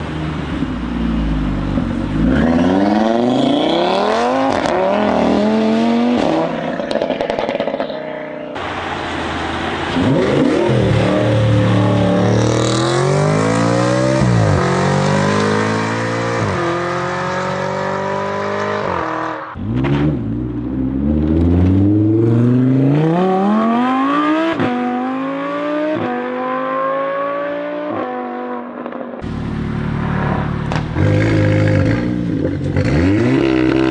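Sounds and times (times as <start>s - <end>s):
car engines accelerating hard: 0.0s - 33.9s.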